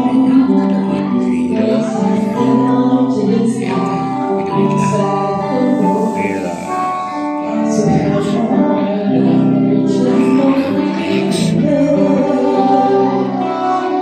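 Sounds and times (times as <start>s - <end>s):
long held instrument notes: 0.0s - 14.0s
person singing: 0.0s - 14.0s.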